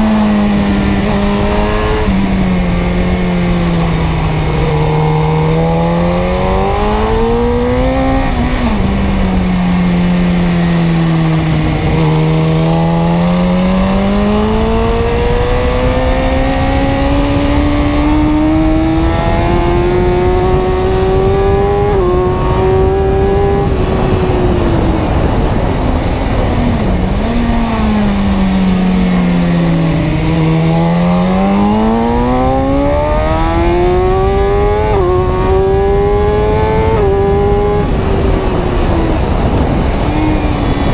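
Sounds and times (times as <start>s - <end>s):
road noise: 0.0s - 40.9s
vehicle engine drone: 0.0s - 40.9s.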